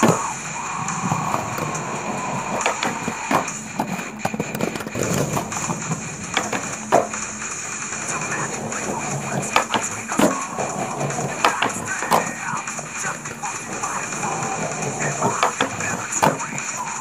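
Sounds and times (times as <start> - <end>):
skateboard clacks and knocks: 0.0 - 17.0
skateboard rolling on concrete: 0.0 - 17.0.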